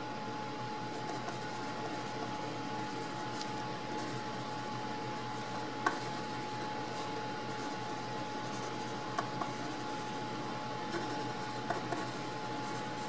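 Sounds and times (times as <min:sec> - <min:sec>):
pencil scratching on paper: 0:00.9 - 0:13.0.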